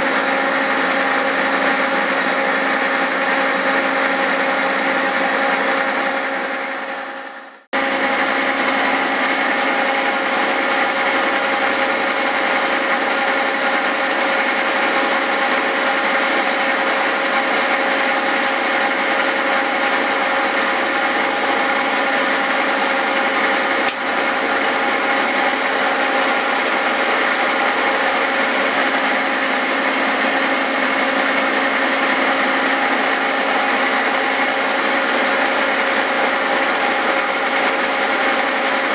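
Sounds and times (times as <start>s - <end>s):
milling machine whine and cutting: 0.0s - 38.9s.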